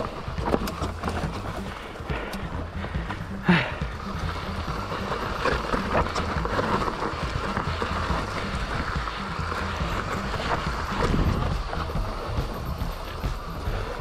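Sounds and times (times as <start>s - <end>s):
bike rattling over stones: 0.0s - 14.0s
wind buffeting microphone: 0.0s - 14.0s.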